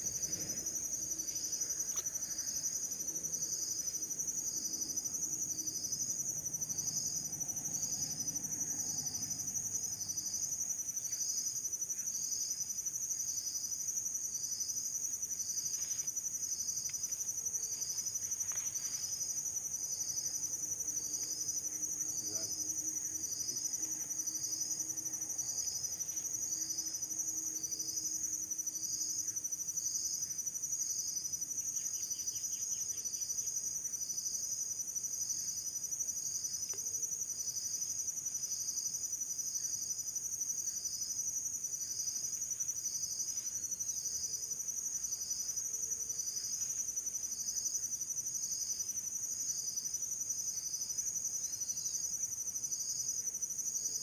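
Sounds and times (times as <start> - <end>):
insect chirp: 0.0 - 54.0.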